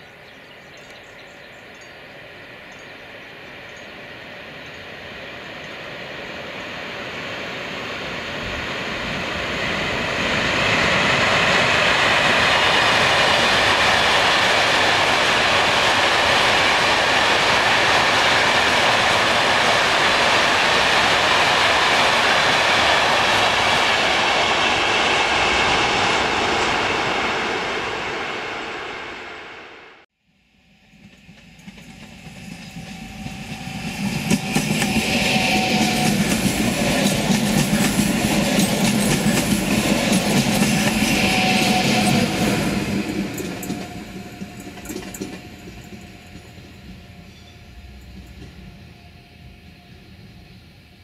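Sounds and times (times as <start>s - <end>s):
freight train wheels rolling: 3.6s - 29.6s, 30.8s - 51.0s.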